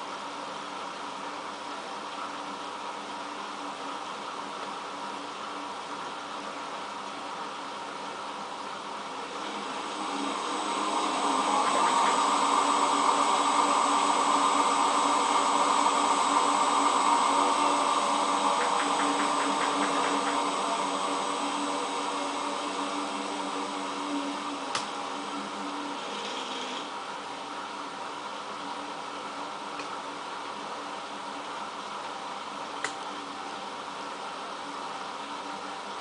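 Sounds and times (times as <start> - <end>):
washing machine spinning: 0.0 - 36.0.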